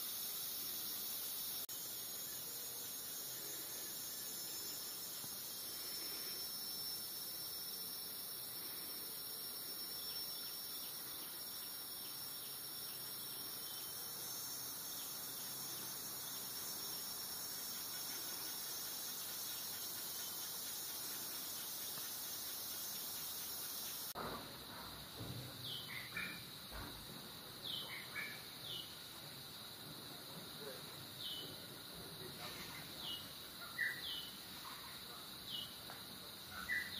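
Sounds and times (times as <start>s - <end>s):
insect chorus drone: 0.0s - 36.9s.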